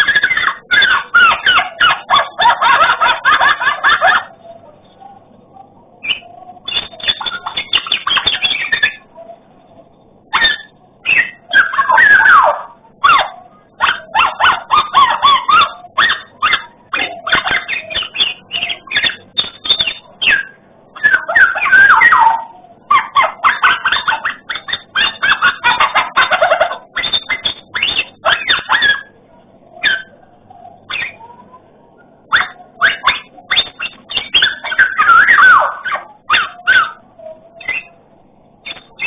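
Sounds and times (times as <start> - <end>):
bird chattering and whistling: 0.0 - 38.0, 38.6 - 39.0.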